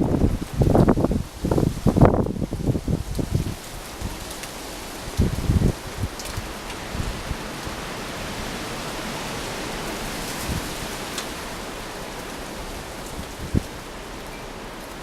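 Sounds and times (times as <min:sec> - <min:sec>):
rain hitting surfaces: 0:00.0 - 0:15.0
wind buffeting on microphone: 0:00.0 - 0:15.0.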